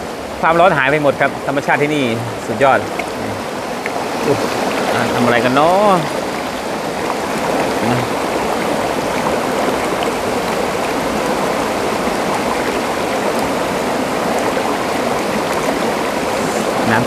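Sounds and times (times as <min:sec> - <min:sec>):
waterfall stream rushing: 0:00.0 - 0:17.0.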